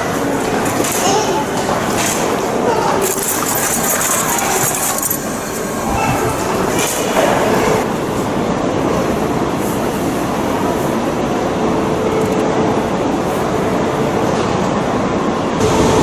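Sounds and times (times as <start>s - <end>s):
train ride rumble and hiss: 0.0s - 16.0s.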